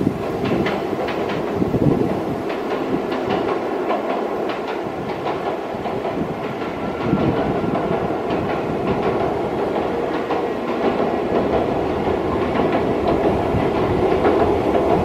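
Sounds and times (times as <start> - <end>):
freight train rolling past: 0.0 - 15.0
wheels clacking over rail joints: 0.0 - 15.0.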